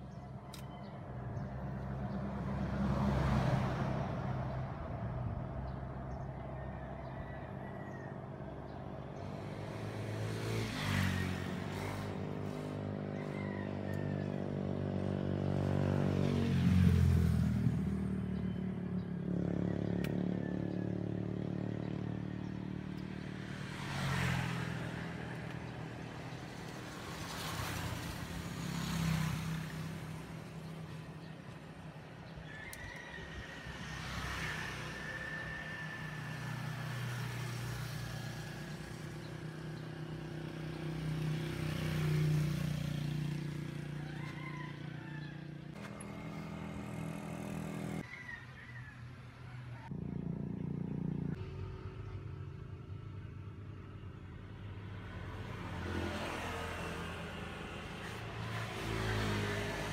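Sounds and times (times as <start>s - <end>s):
passing vehicle engines droning: 0.0s - 59.9s.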